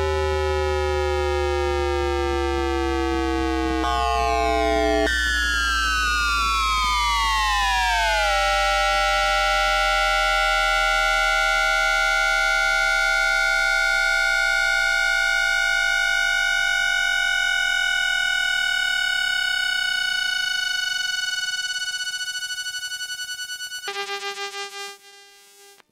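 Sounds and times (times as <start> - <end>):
train inverter electronic whine: 0.3 - 23.9.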